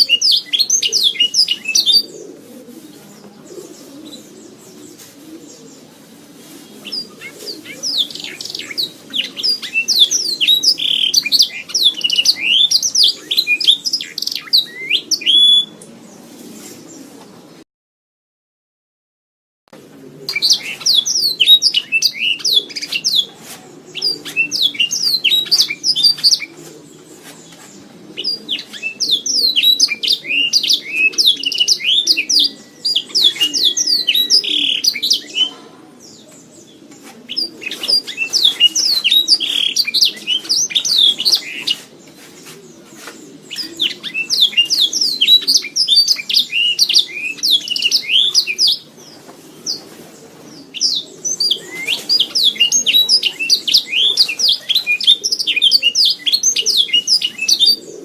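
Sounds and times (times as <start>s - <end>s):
canary singing: 0.0s - 6.0s, 6.7s - 15.9s, 20.3s - 58.0s.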